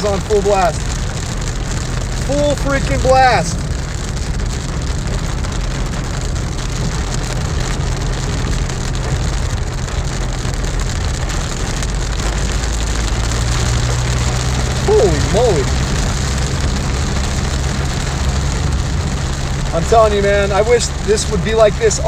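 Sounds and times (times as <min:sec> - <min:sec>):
car hum on wet road: 0:00.0 - 0:22.0
heavy rain on car roof: 0:00.0 - 0:22.0.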